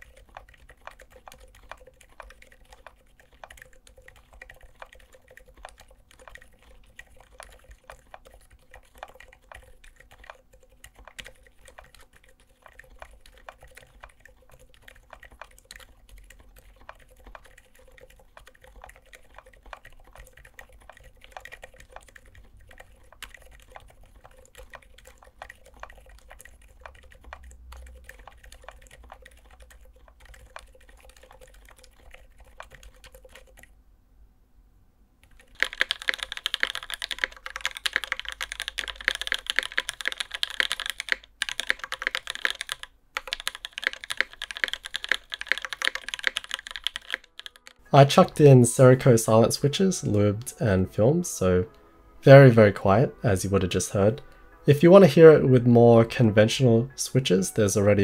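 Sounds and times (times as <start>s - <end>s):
loud mechanical keyboard typing: 0.0s - 33.7s, 35.2s - 51.6s
very quiet keyboard typing: 0.0s - 33.8s, 35.2s - 58.0s.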